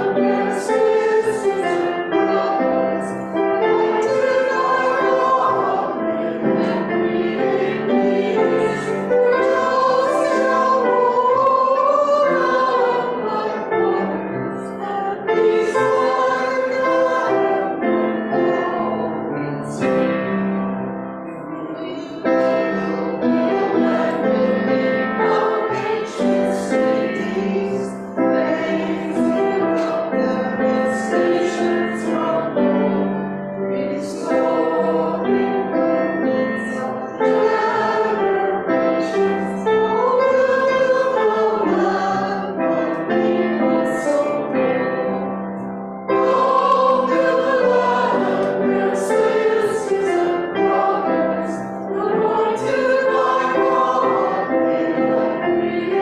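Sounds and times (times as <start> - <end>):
choir and congregation singing hymn: 0.0 - 20.3, 21.3 - 56.0
piano accompaniment: 0.0 - 56.0.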